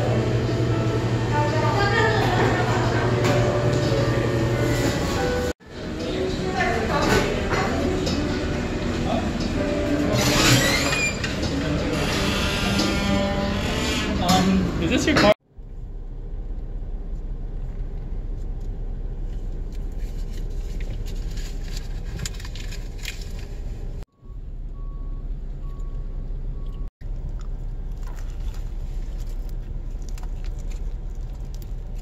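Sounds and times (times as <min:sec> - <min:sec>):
traffic rumble: 0:00.0 - 0:32.0.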